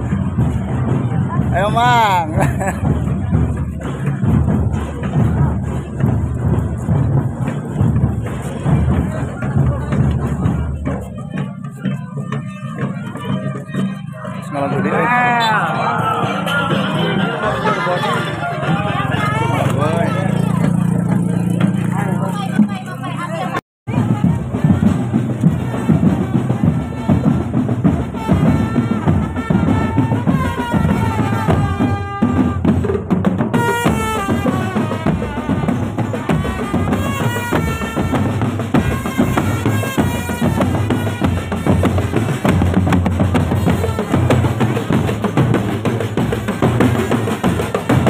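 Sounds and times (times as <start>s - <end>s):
bass and snare drums beating: 0.0s - 48.0s
marching band melody: 0.0s - 48.0s.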